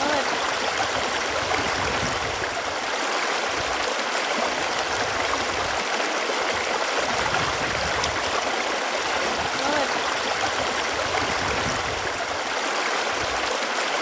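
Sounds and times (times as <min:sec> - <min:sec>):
running water rushing and gurgling: 0:00.0 - 0:14.0.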